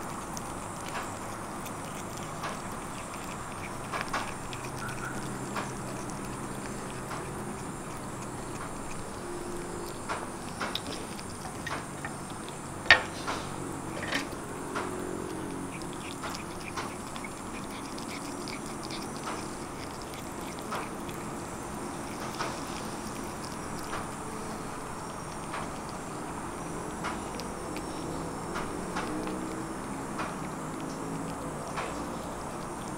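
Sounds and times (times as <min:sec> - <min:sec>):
kitten chewing food: 0:00.0 - 0:32.9.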